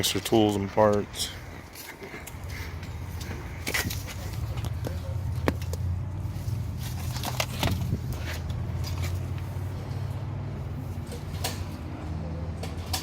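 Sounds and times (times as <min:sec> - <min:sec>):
low mechanical hum: 0:01.3 - 0:13.0.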